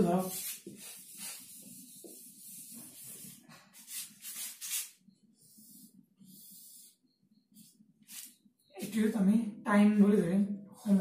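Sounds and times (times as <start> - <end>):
marker scratching on whiteboard: 0.0 - 8.9.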